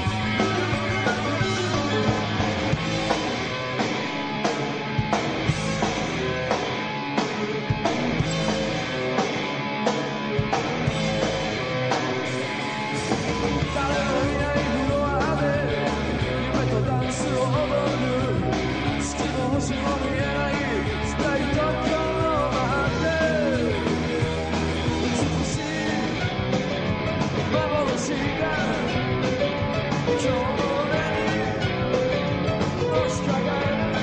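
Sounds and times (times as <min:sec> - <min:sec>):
rock band playing live: 0:00.0 - 0:34.0
steady drum beat: 0:00.0 - 0:34.0.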